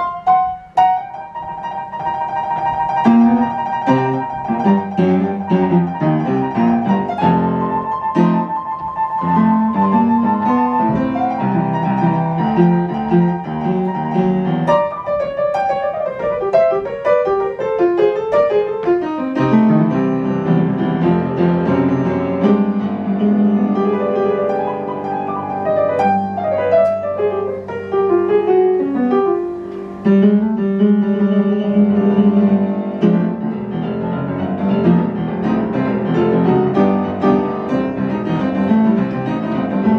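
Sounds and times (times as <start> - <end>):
jazz-blues piano playing: 0.0 - 39.9.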